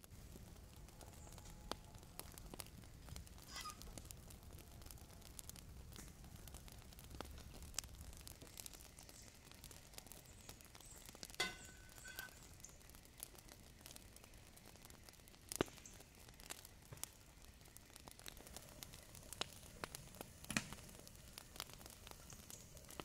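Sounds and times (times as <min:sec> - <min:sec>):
faint crackles and clicks: 0:00.0 - 0:23.0.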